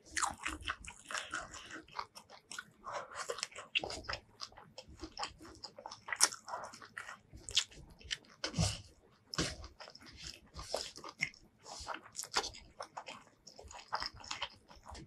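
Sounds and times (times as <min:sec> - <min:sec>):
chewing with wet smacks: 0:00.0 - 0:15.0.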